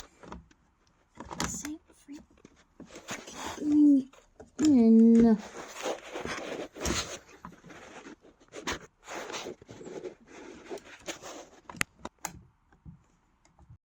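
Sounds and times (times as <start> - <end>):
rustling and scraping: 0.0 - 12.2.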